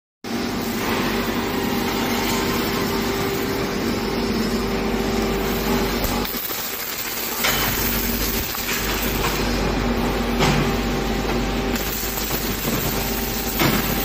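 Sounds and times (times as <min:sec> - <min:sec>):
machine hum: 0:00.2 - 0:14.0
welding arc crackling hiss: 0:00.3 - 0:14.0.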